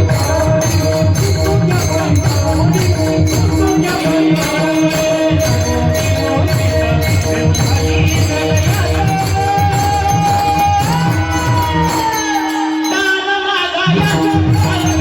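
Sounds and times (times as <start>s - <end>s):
drumming: 0.0s - 12.8s, 13.9s - 15.0s
jingling percussion: 0.0s - 15.0s.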